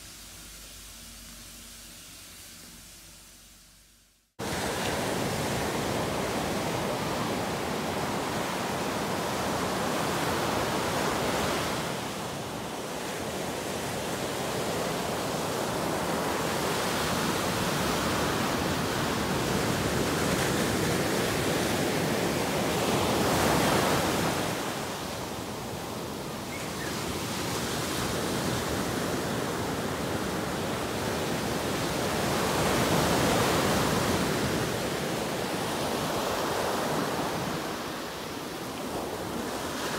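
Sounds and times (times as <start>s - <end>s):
ocean surf breaking on beach: 4.4s - 39.9s.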